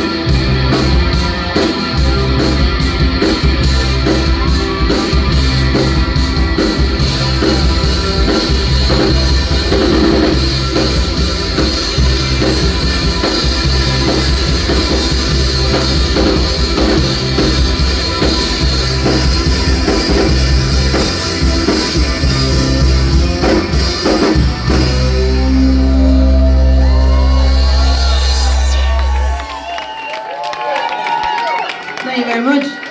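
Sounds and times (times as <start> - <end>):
live rock band playing: 0.0 - 30.4.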